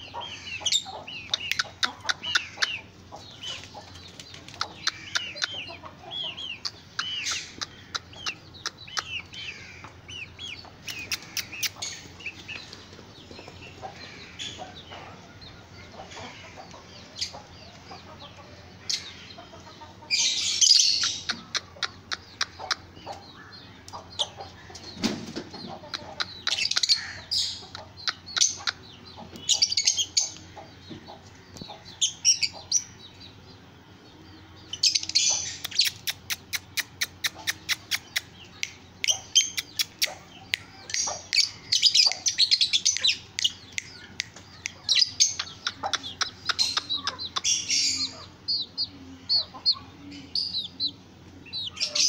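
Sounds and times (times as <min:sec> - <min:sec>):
chickens chirping: 0:00.0 - 0:52.0.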